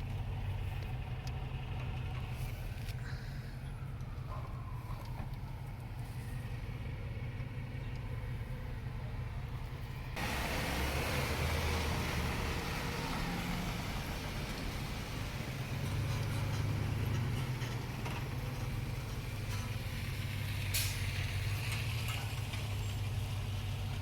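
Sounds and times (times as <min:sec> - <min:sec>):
street traffic hum: 0:00.0 - 0:24.0
hissy street noise: 0:02.3 - 0:24.0.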